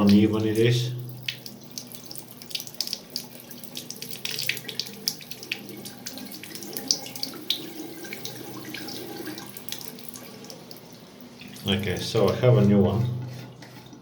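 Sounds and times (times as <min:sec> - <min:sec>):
tap water splashing into sink: 0:00.0 - 0:14.0.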